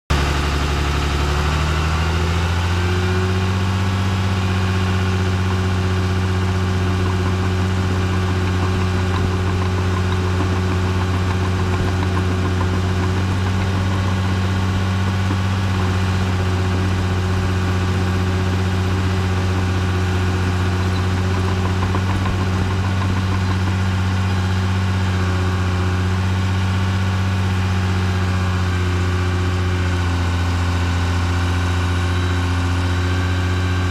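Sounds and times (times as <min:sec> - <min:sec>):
dozer diesel engine: 0:00.1 - 0:33.9.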